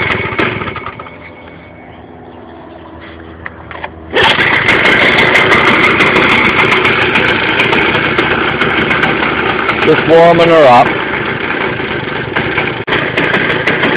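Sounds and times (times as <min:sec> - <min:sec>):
lawnmower engine idling: 0:00.0 - 0:13.9.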